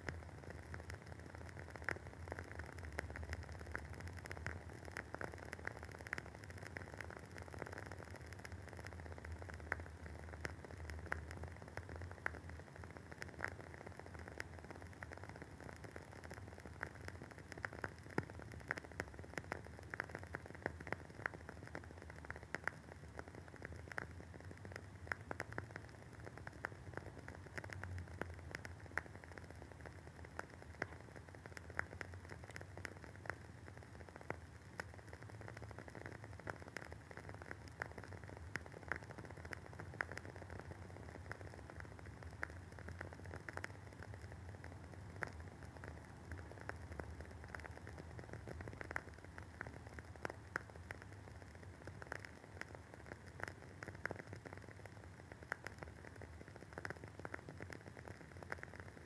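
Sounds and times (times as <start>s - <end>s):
candle wick crackling: 0.0s - 59.0s
faint steady hiss and hum: 0.0s - 59.0s.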